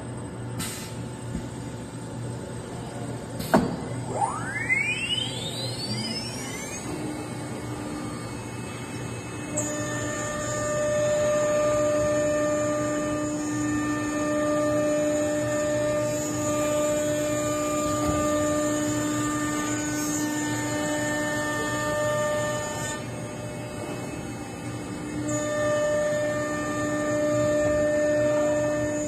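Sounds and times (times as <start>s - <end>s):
machine noise: 0.0s - 29.0s
router spindle whine: 2.4s - 29.0s.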